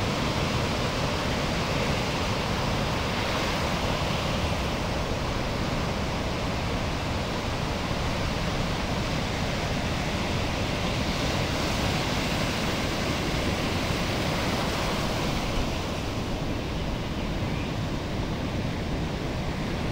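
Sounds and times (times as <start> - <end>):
ocean waves breaking: 0.0 - 19.9.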